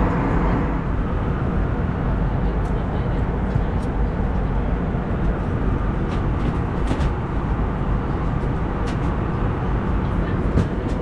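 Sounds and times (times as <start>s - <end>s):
aircraft cabin roar: 0.0s - 11.0s.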